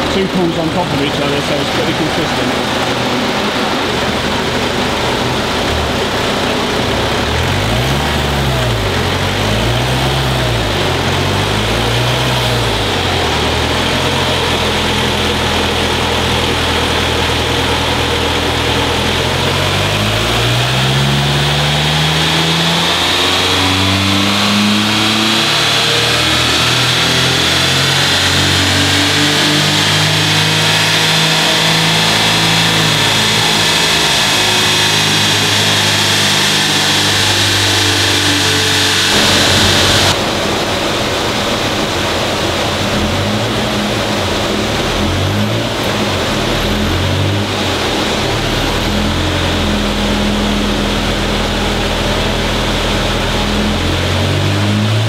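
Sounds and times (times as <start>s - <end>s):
high whine: 0.0s - 54.3s
car engine revving: 0.0s - 55.0s.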